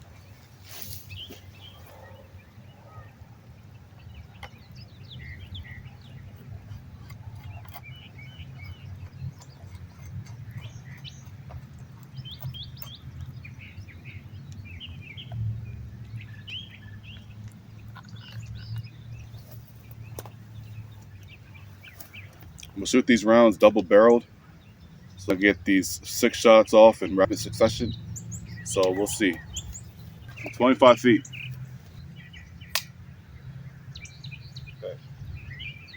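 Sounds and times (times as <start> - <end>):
birds chirping: 0.0 - 35.9.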